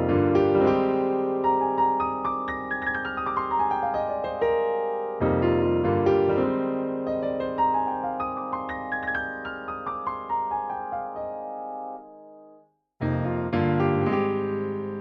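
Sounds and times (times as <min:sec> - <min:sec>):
synthesizer piano chords and notes: 0:00.0 - 0:15.0.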